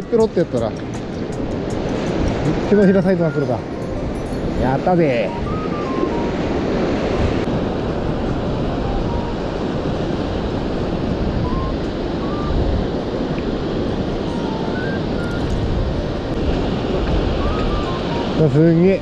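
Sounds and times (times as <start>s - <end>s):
waves breaking on beach: 0.0s - 19.0s
wind buffeting microphone: 0.0s - 19.0s.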